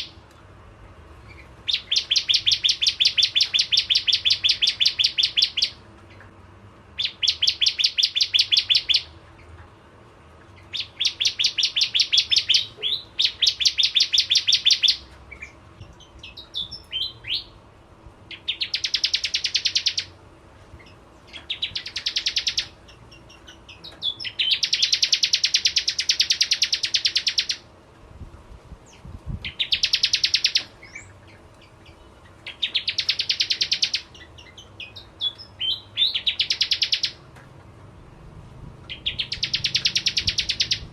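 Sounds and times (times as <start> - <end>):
bird chirps: 1.2 - 6.3, 7.0 - 9.6, 10.4 - 17.6, 18.3 - 20.2, 20.8 - 27.7, 28.9 - 37.3, 38.9 - 40.9
bird singing high pulsing trills: 1.2 - 6.3, 7.0 - 9.2, 10.6 - 17.6, 18.3 - 20.1, 20.8 - 27.6, 28.9 - 37.2, 38.9 - 40.9.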